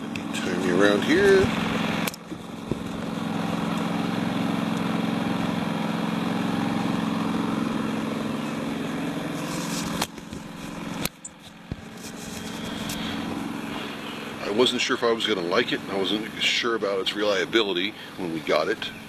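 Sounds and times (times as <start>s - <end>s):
generator engine humming: 0.0s - 19.0s.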